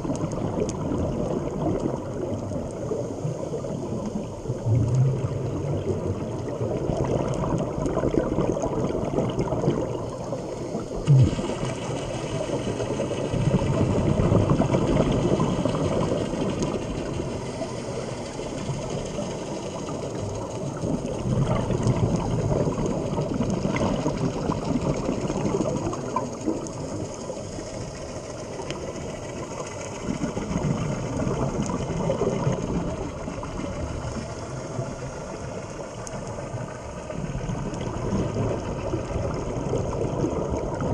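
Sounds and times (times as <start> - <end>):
muffled churning underwater sound: 0.0 - 40.9.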